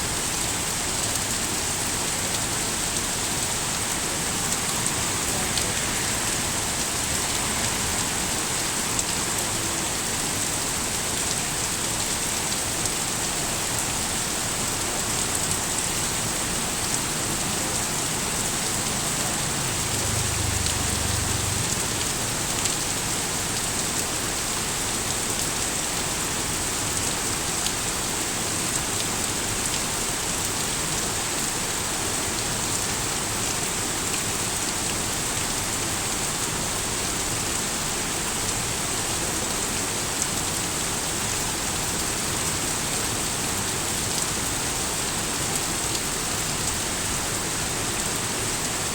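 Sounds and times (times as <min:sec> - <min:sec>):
rain pattering on surfaces: 0:00.0 - 0:48.9.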